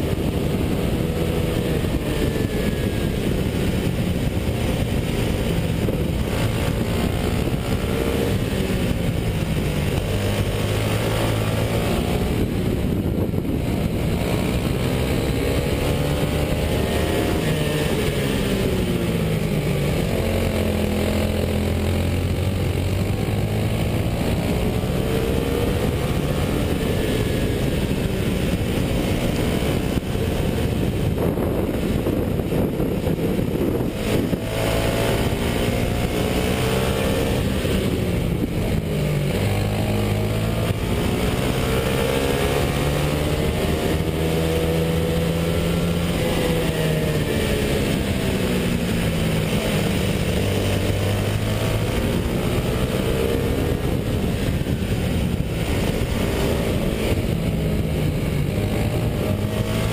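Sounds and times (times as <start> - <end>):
kart engine revving: 0.0 - 59.9
wind and road noise: 0.0 - 59.9.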